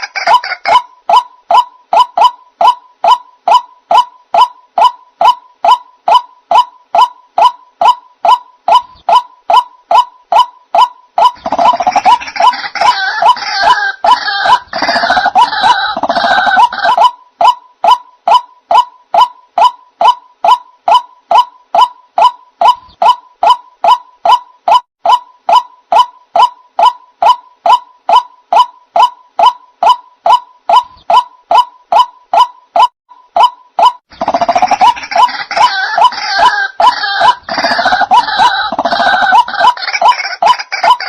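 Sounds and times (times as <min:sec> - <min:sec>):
bird croaking call: 0:00.0 - 0:41.0
overlapping bird calls: 0:00.0 - 0:41.0.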